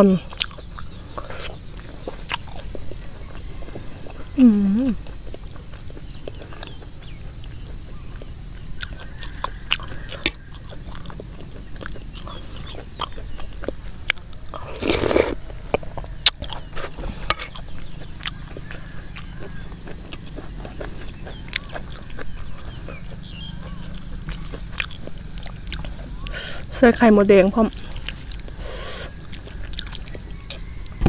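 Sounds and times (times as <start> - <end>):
chewing with crunchy pops: 0.0 - 31.0.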